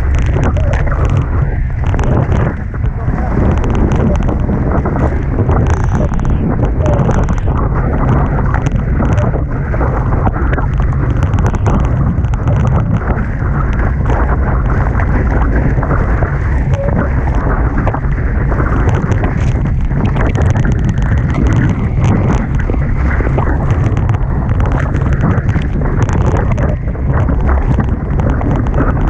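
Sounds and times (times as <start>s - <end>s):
rushing water and spray: 0.0s - 29.0s
short crackles: 0.0s - 29.0s
wind buffeting microphone: 0.0s - 29.0s.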